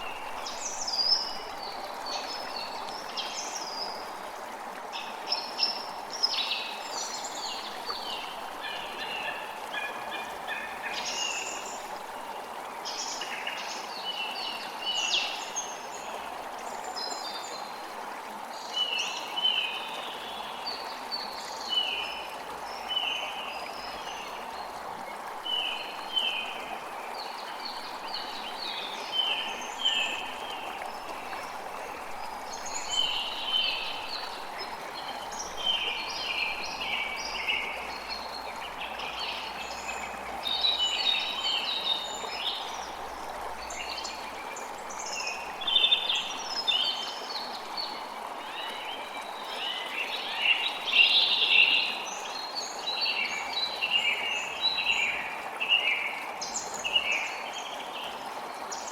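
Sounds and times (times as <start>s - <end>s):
creek running: 0.0s - 58.9s.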